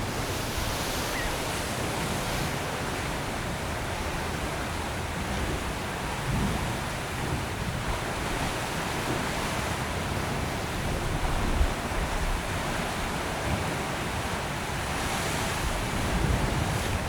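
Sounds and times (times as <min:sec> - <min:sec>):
wind buffeting microphone: 0:00.0 - 0:13.8, 0:15.2 - 0:17.0
surf: 0:00.0 - 0:17.0.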